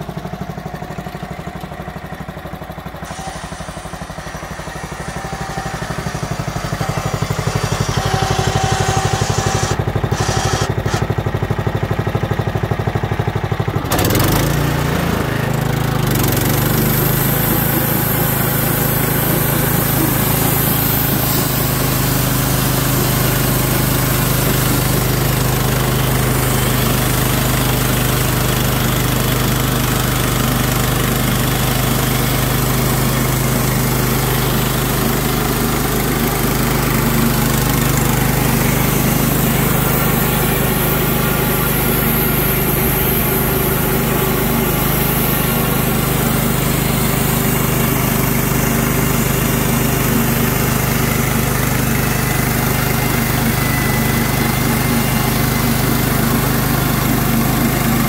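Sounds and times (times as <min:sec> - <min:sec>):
sawmill engine humming: 0:00.0 - 0:58.0.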